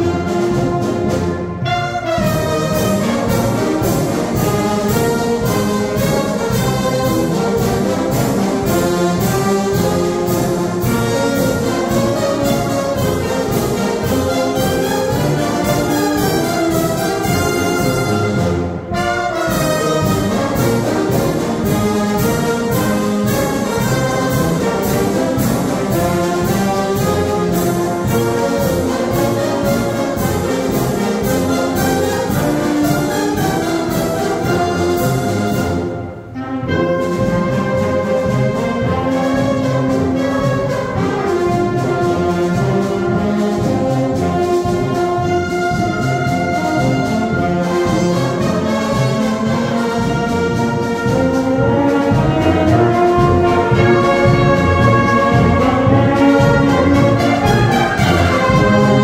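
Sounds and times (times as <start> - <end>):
wind band playing a march: 0.0 - 59.0.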